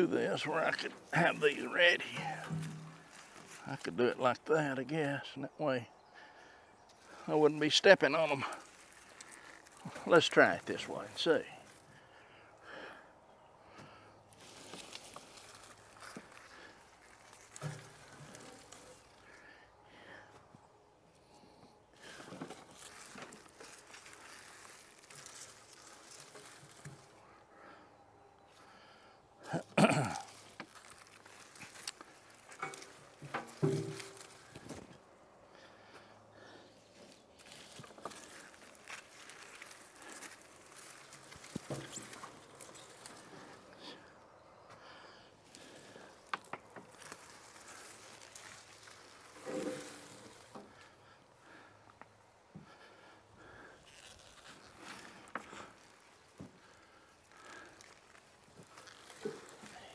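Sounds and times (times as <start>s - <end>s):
plant stalks rustling and crackling: 0.0s - 5.4s, 6.2s - 12.8s, 13.9s - 27.8s, 28.5s - 59.9s.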